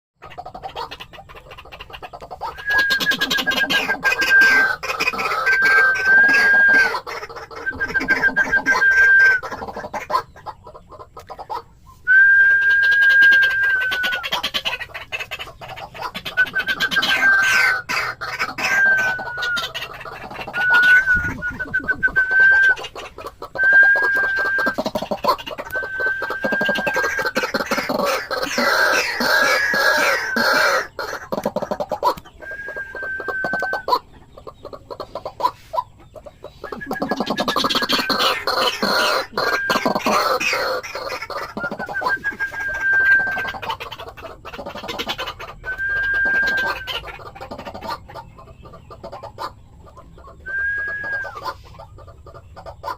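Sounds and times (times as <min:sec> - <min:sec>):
waterhens clucking: 0:00.2 - 0:52.9
rapid bird call notes: 0:00.6 - 0:48.1.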